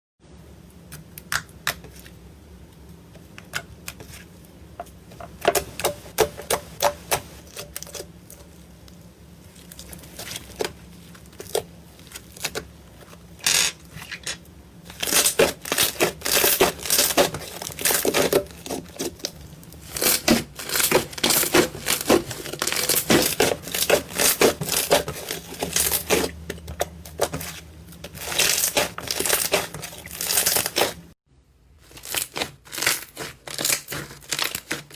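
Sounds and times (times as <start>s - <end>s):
slime squishing: 3.2s - 31.1s, 31.8s - 34.9s.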